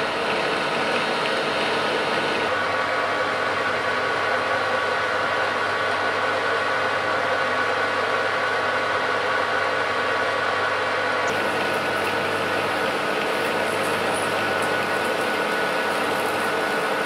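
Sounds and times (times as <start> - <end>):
lathe motor and gear whine: 0.0 - 17.0.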